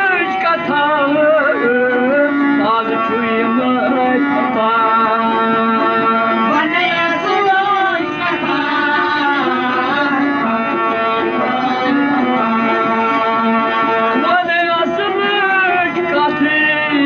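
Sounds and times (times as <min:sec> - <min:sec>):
person singing devotional song: 0:00.0 - 0:17.0
sustained instrumental accompaniment: 0:00.0 - 0:17.0.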